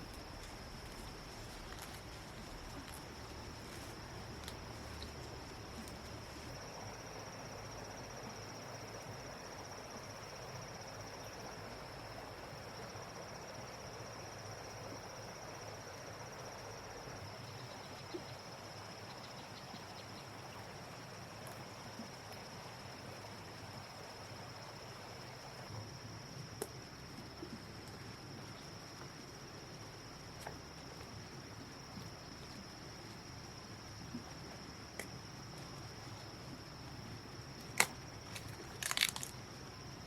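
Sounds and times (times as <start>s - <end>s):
faint background hiss: 0.0s - 40.0s
insects trilling: 0.0s - 40.0s.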